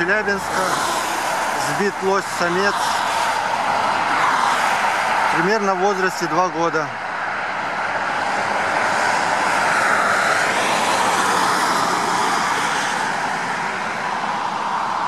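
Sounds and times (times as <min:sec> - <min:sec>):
vehicle passing on highway: 0:00.0 - 0:15.0.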